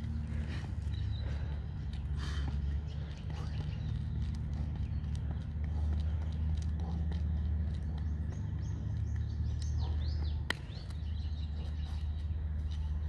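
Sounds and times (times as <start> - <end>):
bird chirping: 0.0 - 13.0
low steady rumble: 0.0 - 13.0.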